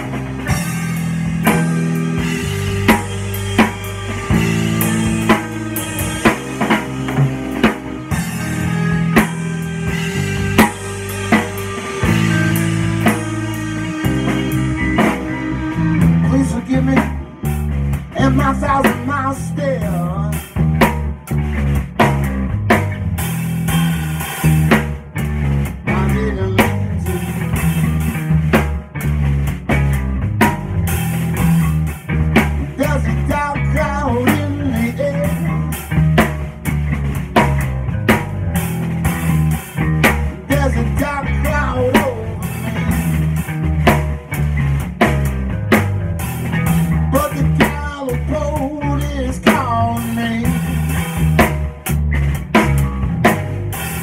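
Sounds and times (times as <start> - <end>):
bass line: 0.0 - 54.0
drum kit: 0.0 - 54.0
guitar with bending notes: 0.0 - 54.0.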